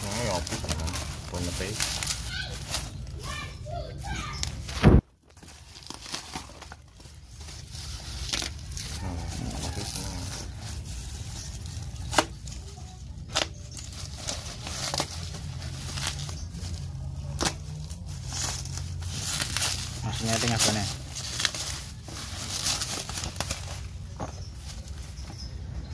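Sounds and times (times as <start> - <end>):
plastic and bubble wrap crinkling: 0.0 - 25.9.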